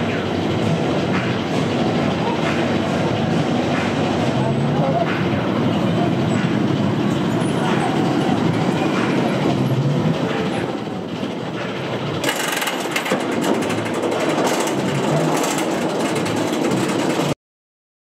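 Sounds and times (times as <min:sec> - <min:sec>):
lift hill clicking: 0:00.0 - 0:17.4
roller coaster train rolling: 0:00.0 - 0:17.4.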